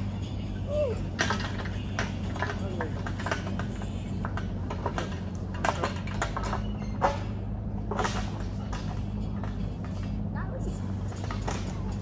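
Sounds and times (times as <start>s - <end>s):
engine running: 0.0s - 12.0s
irregular knocks and clatter: 1.1s - 12.0s.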